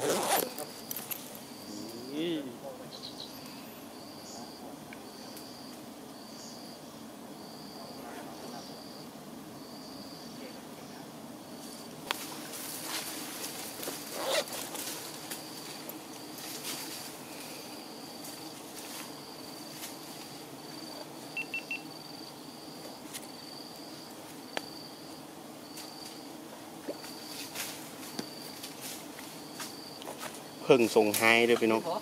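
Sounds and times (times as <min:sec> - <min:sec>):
low hum of bees: 0:00.0 - 0:32.0
short high insect calls: 0:00.0 - 0:32.0.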